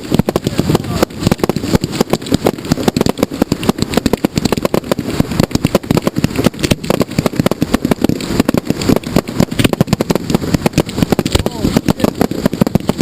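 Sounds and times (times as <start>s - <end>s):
fireworks barrage: 0.0s - 13.0s.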